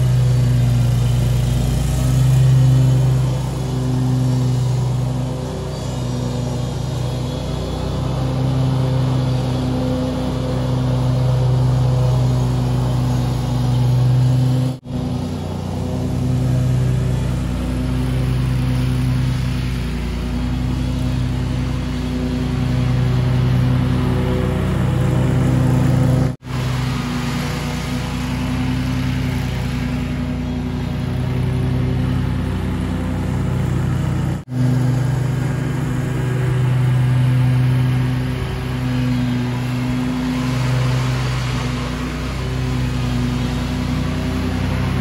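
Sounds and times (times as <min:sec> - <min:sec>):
mower engine running: 0:00.0 - 0:45.0.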